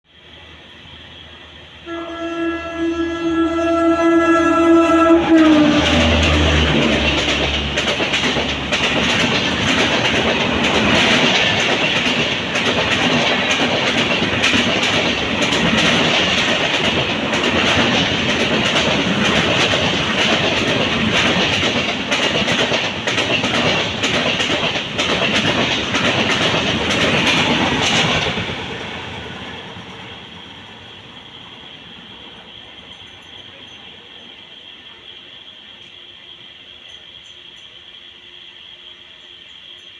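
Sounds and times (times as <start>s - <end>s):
train passing at speed: 0.1s - 36.6s.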